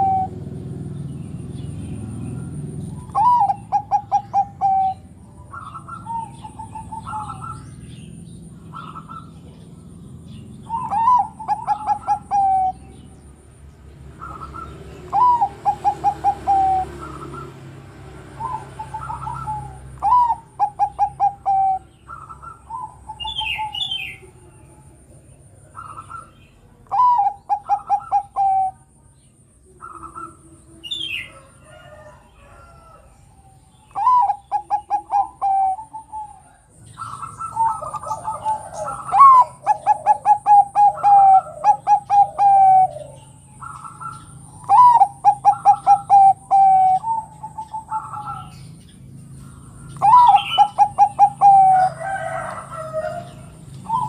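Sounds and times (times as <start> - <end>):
dove cooing: 0.0 - 13.4, 14.1 - 29.0, 29.6 - 54.0
small birds chirping: 0.0 - 54.0.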